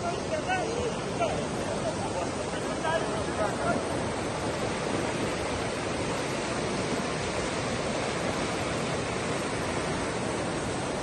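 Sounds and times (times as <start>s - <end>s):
floodwater rushing down a river: 0.0s - 11.0s.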